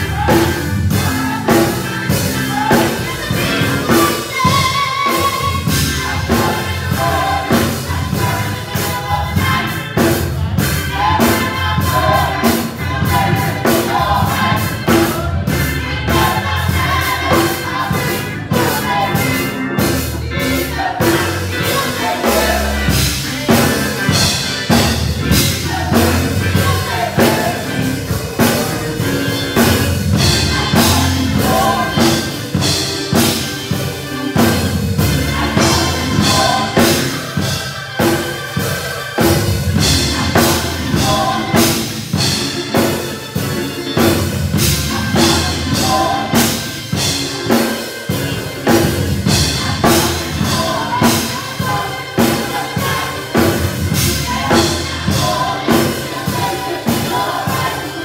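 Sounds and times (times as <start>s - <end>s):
band with drum kit: 0.0s - 58.0s
group singing gospel: 0.0s - 58.0s.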